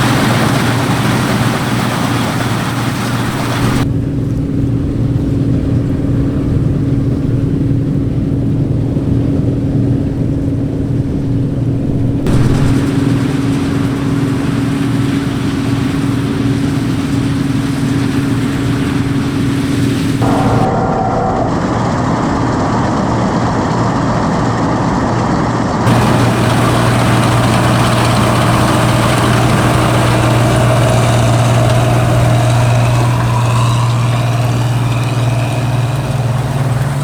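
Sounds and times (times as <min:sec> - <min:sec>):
combine harvester engine drone: 0:00.0 - 0:37.0
steady machine hum: 0:00.0 - 0:37.0.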